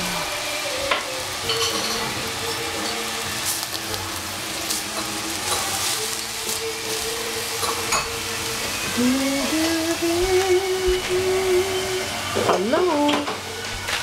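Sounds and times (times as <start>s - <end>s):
cabbage sizzling in a saucepan: 0.0s - 14.0s.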